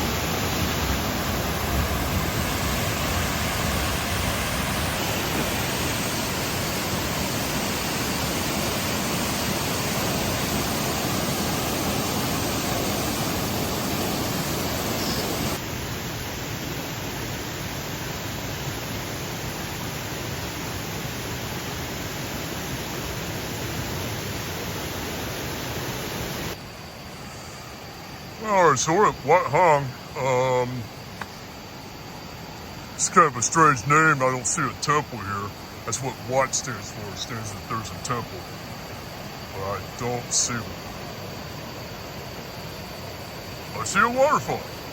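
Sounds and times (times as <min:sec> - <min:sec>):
waterfall rushing: 0:00.0 - 0:26.6, 0:27.7 - 0:31.1, 0:31.7 - 0:44.9.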